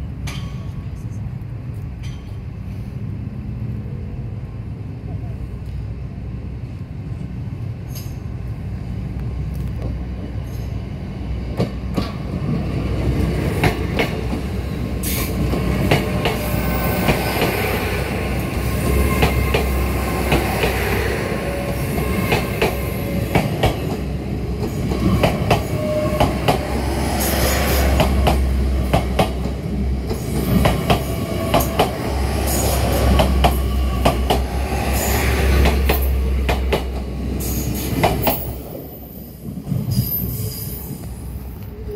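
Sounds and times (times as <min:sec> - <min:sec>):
train diesel engine hum: 0:00.0 - 0:41.9.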